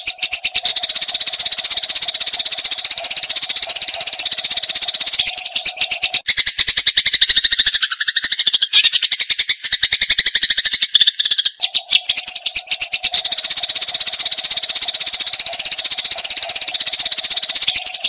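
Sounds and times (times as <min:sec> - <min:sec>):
sparrow fast chatter: 0:00.0 - 0:18.0.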